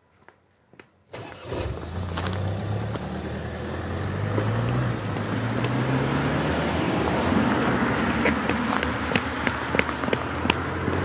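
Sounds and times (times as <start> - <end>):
car engine accelerating: 1.2 - 11.0.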